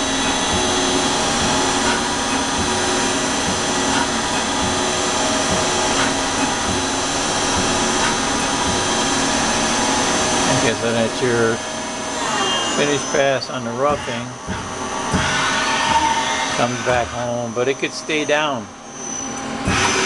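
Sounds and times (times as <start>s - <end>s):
lathe spindle whine: 0.0s - 20.0s
metal cutting noise: 0.0s - 20.0s.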